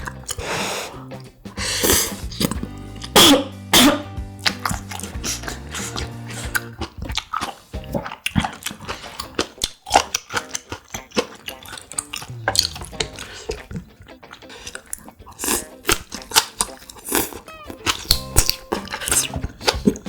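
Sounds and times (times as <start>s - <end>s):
wet chewing mouth sounds: 0.0s - 20.0s.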